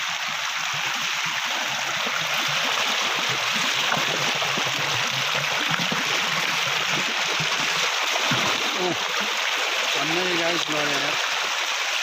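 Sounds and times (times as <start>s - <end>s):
rainwater runoff flowing: 0.0s - 12.0s.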